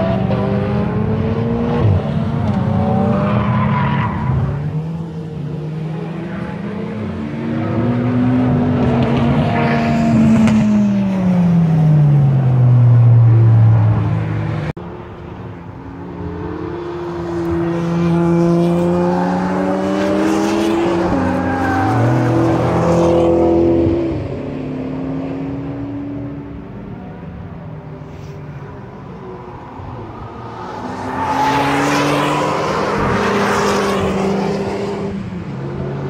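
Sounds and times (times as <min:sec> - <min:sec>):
car shifting gear and accelerating: 0:00.0 - 0:15.6, 0:16.2 - 0:26.4, 0:29.6 - 0:36.0
sports cars passing at speed: 0:00.0 - 0:36.0.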